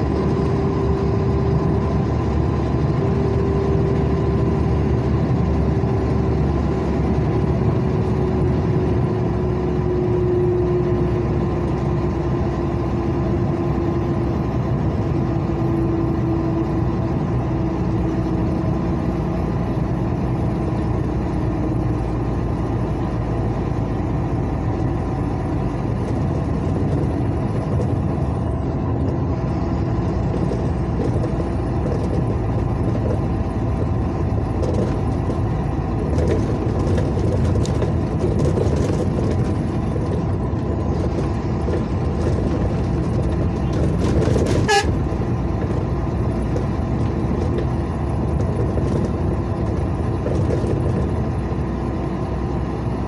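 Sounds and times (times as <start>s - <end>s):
vehicle road and engine noise: 0.0s - 53.0s.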